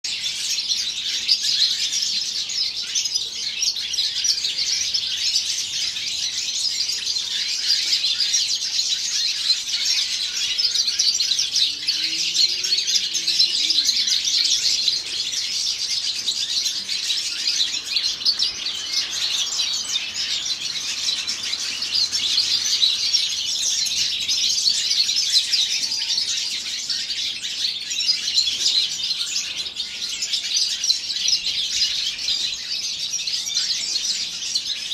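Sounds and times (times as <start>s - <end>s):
bird twittering song: 0.0s - 34.9s.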